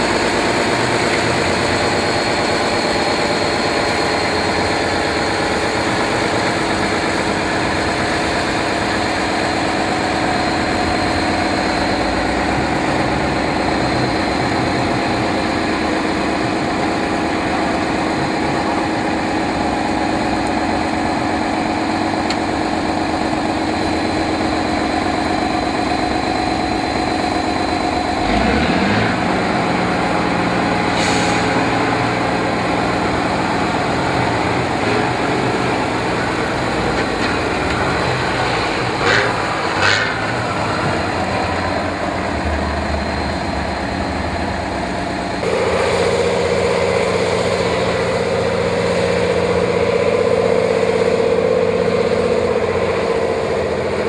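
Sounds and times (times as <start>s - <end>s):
off-road vehicle engine under load: 0.0s - 54.0s.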